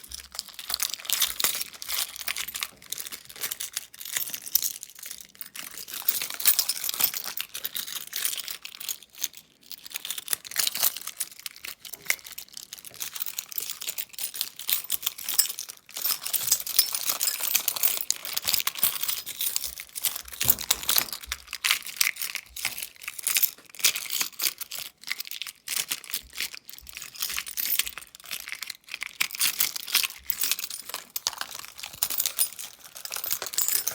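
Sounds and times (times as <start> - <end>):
metal keys jangling: 0.1 - 9.2, 9.8 - 24.8, 26.2 - 33.9.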